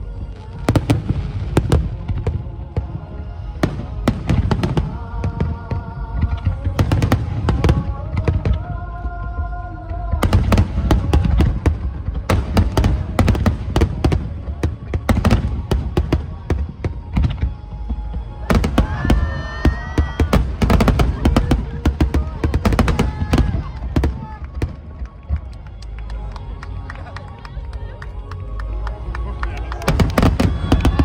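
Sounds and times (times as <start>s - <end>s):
fireworks bursting and crackling: 0.0s - 9.1s, 9.9s - 31.0s
music with sustained notes: 0.0s - 31.0s.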